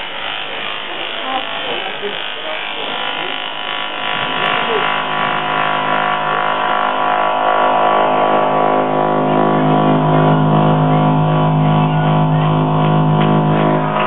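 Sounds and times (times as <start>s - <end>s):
synthesizer drone: 0.0s - 14.0s.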